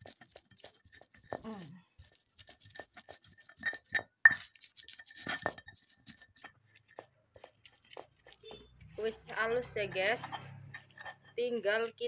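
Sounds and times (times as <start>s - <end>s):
stone pestle grinding in mortar: 0.0s - 12.0s.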